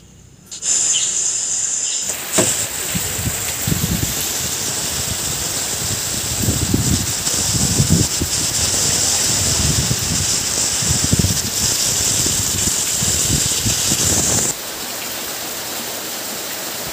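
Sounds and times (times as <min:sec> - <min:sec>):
heavy rain pouring: 0:00.5 - 0:16.9.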